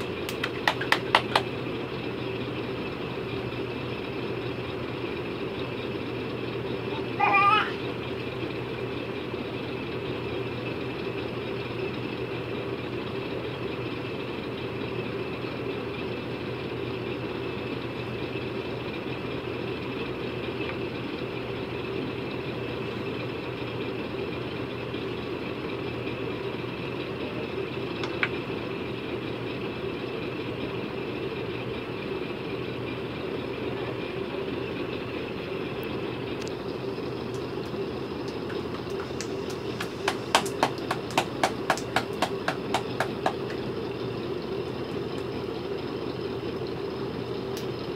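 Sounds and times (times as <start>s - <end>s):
steady mechanical hum: 0.0s - 47.9s.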